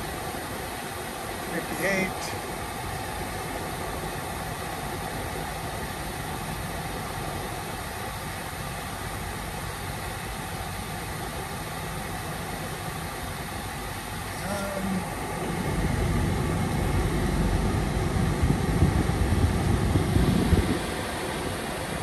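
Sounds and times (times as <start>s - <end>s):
air rushing from vents: 0.0s - 22.0s
car engine idling hum: 0.0s - 22.0s.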